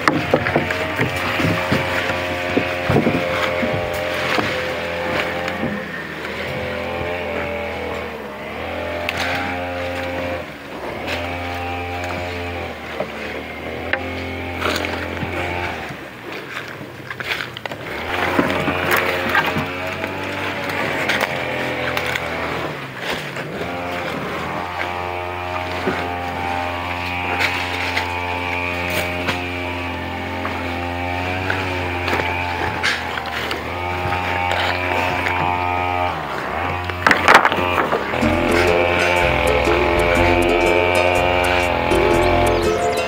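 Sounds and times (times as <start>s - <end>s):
small engine humming: 0.0s - 16.9s, 17.8s - 43.0s.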